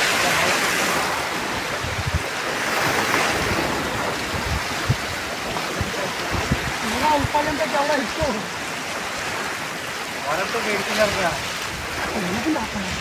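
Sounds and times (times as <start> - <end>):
wind buffeting microphone: 0.0 - 10.2, 10.8 - 13.0
waves washing over rocks: 0.0 - 13.0.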